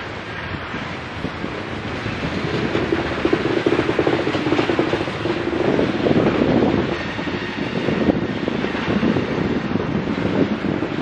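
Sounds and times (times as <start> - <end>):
freight train wheels clicking on rails: 0.0 - 11.0.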